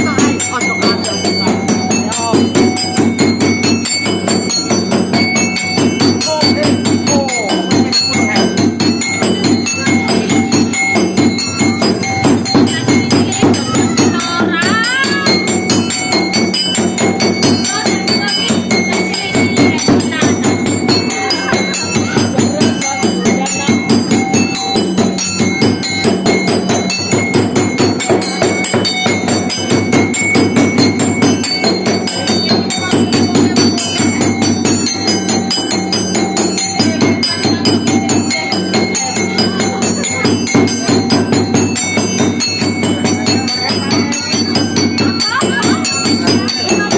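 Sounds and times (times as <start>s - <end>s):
bell-like metal percussion music: 0.0s - 46.9s.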